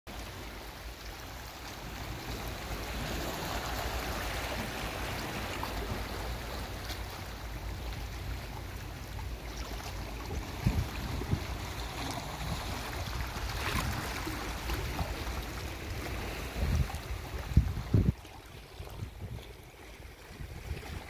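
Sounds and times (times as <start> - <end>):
waves lapping over rocks: 0.1 - 21.0.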